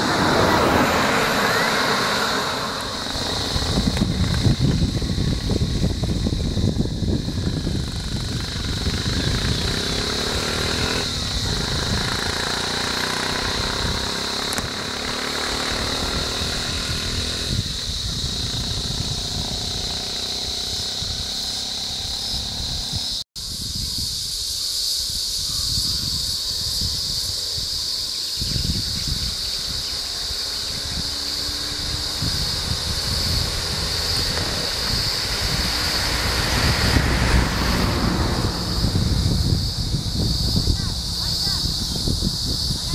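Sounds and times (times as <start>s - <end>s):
vehicle engines running: 0.0s - 23.2s, 25.8s - 42.9s
wind buffeting microphone: 0.0s - 42.9s.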